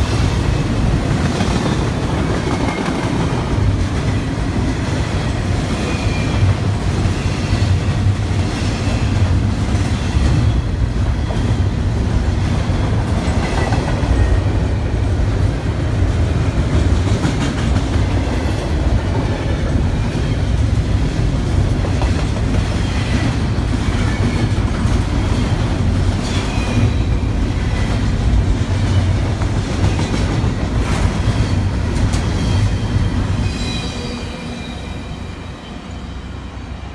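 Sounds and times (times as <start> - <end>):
freight train rumbling past: 0.0 - 36.9.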